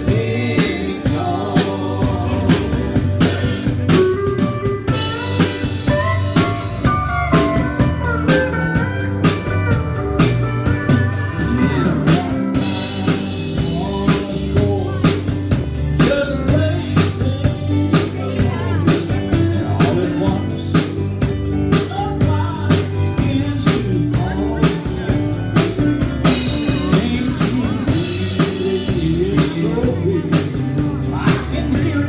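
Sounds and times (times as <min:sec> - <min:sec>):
drum kit: 0:00.0 - 0:32.0
guitar melody: 0:00.0 - 0:32.0.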